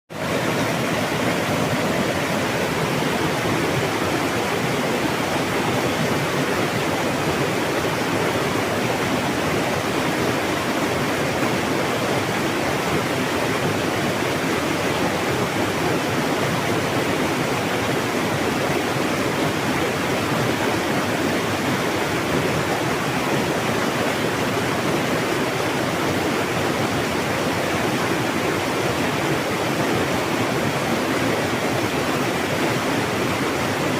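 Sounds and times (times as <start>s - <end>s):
water rushing over rocks: 0.1s - 33.9s.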